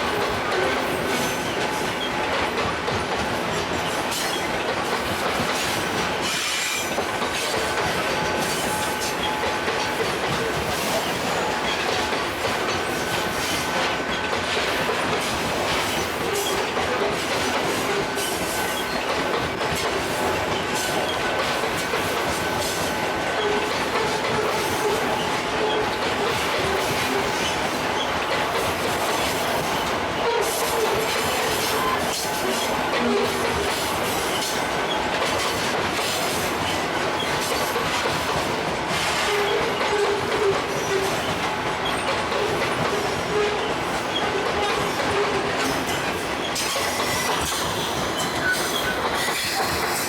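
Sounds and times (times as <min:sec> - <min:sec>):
train wheels clacking over rail joints: 0:00.0 - 0:50.0
train wheels squealing: 0:00.9 - 0:02.5, 0:03.4 - 0:14.4, 0:15.0 - 0:37.9, 0:38.9 - 0:50.0.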